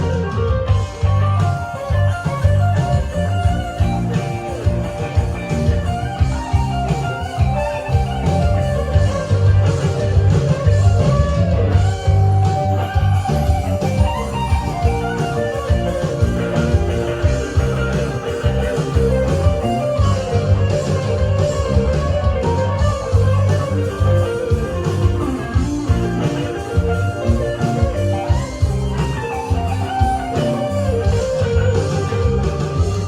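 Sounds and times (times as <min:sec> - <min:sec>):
bass and rhythm: 0:00.0 - 0:33.0
electric guitar melody: 0:00.0 - 0:33.0.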